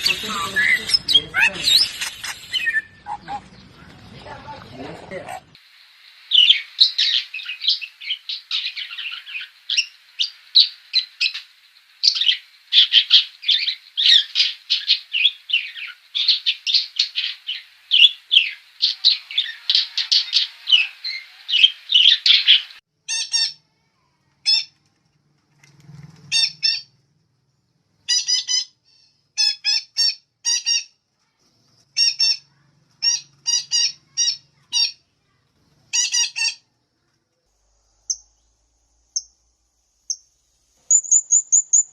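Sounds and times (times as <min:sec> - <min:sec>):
songbird chirping: 0:00.0 - 0:25.0, 0:25.8 - 0:41.9.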